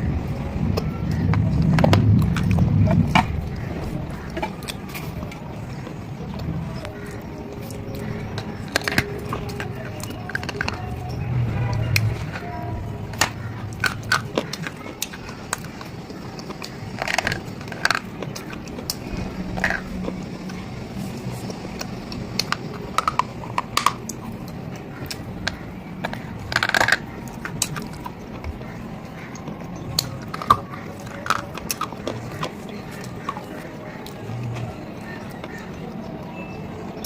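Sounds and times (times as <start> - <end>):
crunchy chewing: 0.0 - 37.0.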